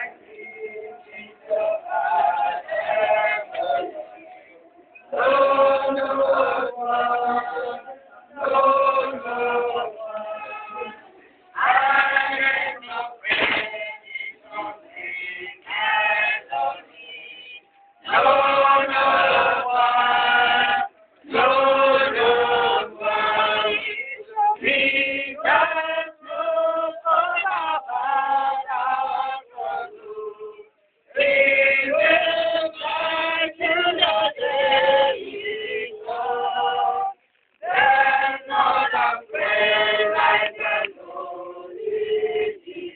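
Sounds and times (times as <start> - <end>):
choir singing a hymn: 0.0 - 42.9.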